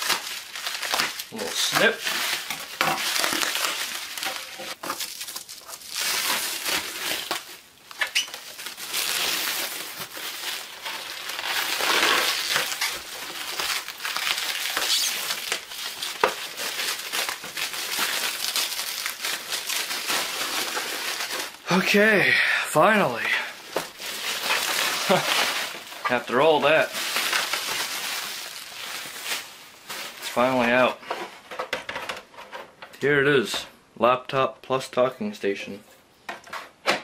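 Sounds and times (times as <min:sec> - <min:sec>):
plastic wrap crinkling: 0:00.0 - 0:22.0, 0:22.8 - 0:31.6.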